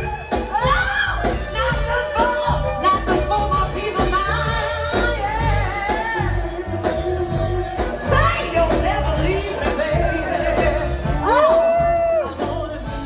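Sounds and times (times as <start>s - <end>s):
bass: 0.0s - 13.0s
drums: 0.0s - 13.0s
woman singing: 0.2s - 13.0s.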